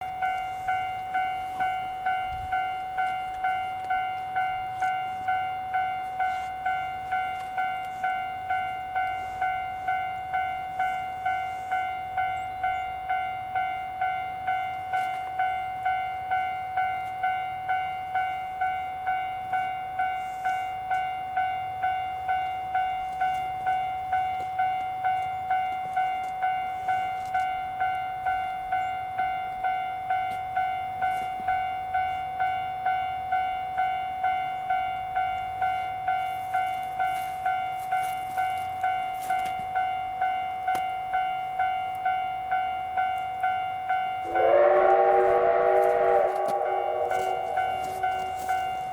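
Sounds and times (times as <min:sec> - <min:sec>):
level crossing warning bell: 0:00.0 - 0:48.9.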